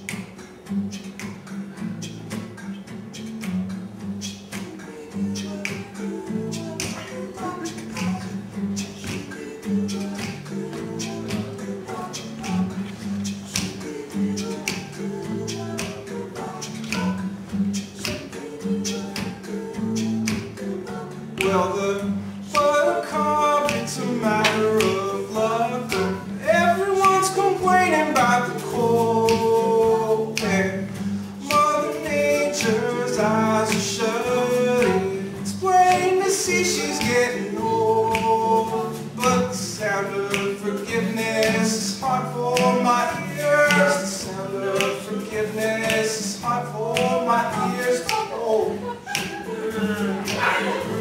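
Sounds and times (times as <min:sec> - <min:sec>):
clicking beat: 0:00.0 - 0:51.0
voices singing in harmony: 0:00.0 - 0:51.0.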